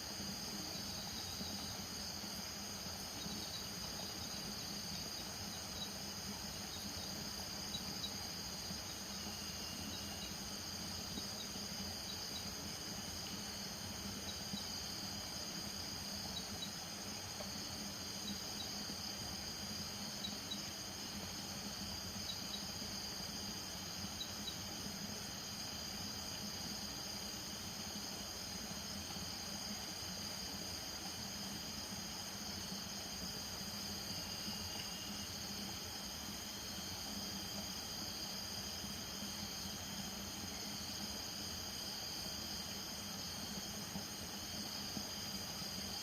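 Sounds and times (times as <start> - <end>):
crickets trilling: 0.0 - 46.0
insect double chirp: 0.0 - 46.0.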